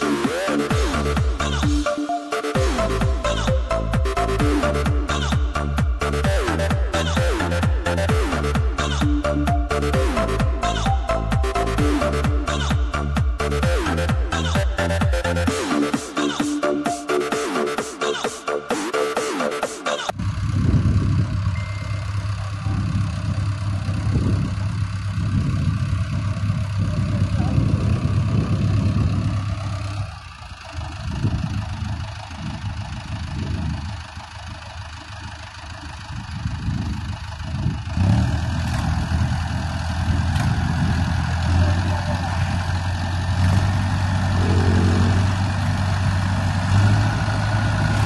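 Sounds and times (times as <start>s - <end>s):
tractor diesel engine humming: 0.0s - 48.0s.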